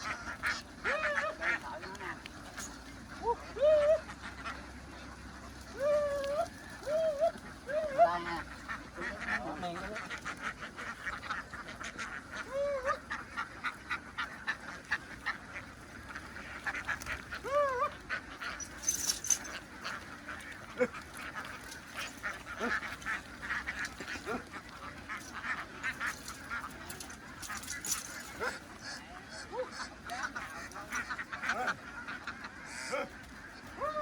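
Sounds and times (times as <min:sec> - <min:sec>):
flock of ducks quacking: 0:00.0 - 0:34.0.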